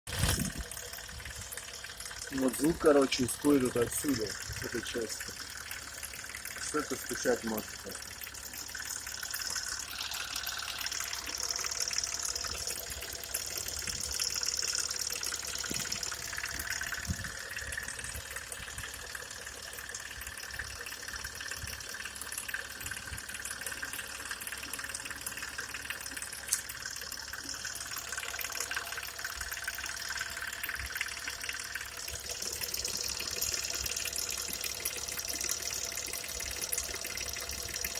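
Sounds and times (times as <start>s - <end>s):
car engine running: 0.1s - 37.9s
engine knocking: 0.1s - 37.9s.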